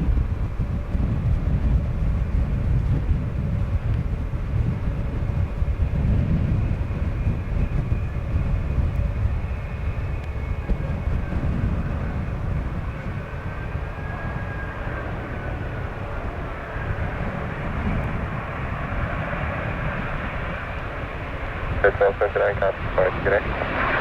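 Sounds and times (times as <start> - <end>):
high jet whine: 0.0 - 24.0
jet engine rumble: 0.0 - 24.0
wind buffeting microphone: 0.0 - 24.0.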